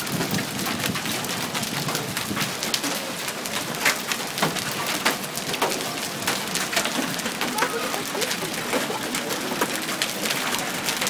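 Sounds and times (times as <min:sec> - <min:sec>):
hailstones striking hard surfaces: 0:00.0 - 0:11.0.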